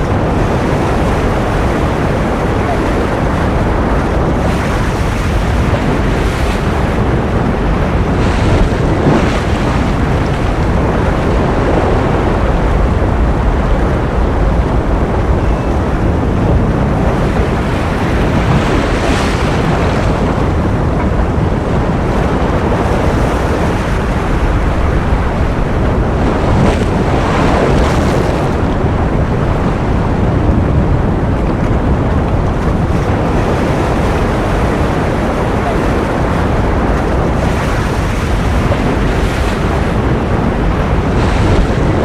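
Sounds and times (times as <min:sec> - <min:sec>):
ocean waves rushing: 0:00.0 - 0:42.0.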